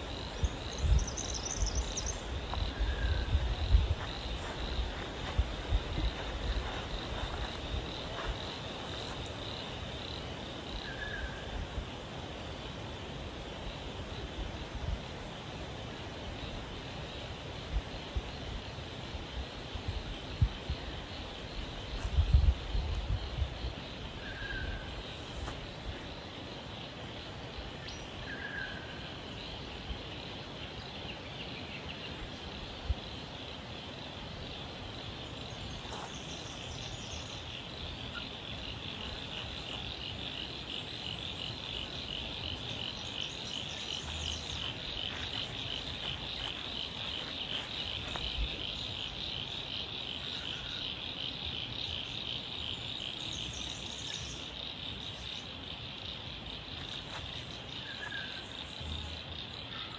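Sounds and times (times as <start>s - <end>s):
frogs and insects chorus: 0.0s - 59.9s.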